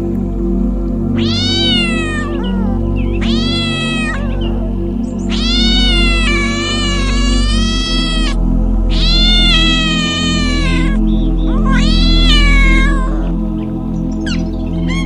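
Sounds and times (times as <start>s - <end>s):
soft background music: 0.0s - 15.0s
cat meowing: 1.2s - 13.6s, 14.2s - 15.0s.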